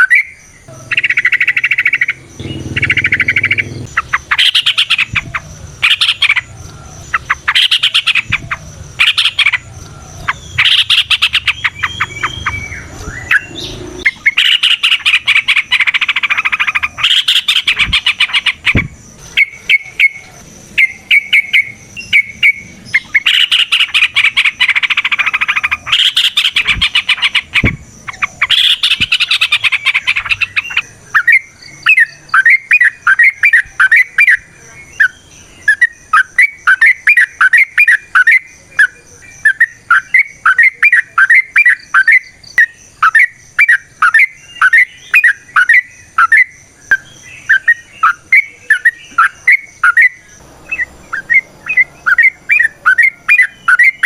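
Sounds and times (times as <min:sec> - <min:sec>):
bird singing: 0:00.0 - 0:54.0
faint high insect trill: 0:00.0 - 0:54.0.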